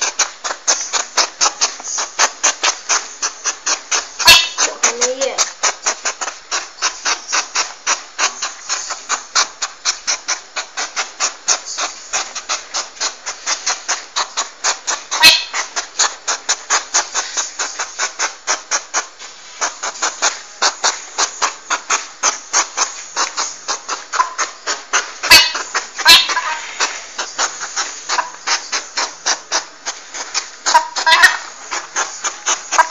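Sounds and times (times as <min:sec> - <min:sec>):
porcupine rattling quills: 0:00.0 - 0:32.9.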